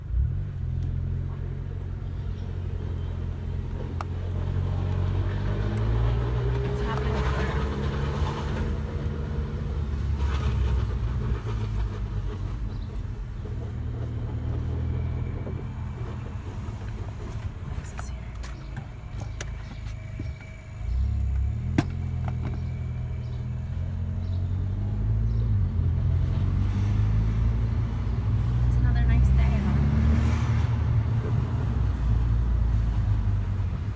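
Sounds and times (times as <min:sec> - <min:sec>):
car engine droning: 0:00.0 - 0:33.9.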